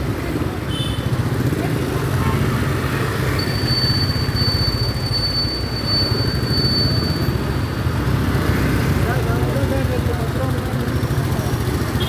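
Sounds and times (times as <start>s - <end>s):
motorcycle engine rumbling: 0.0s - 12.0s
road noise: 0.0s - 12.0s.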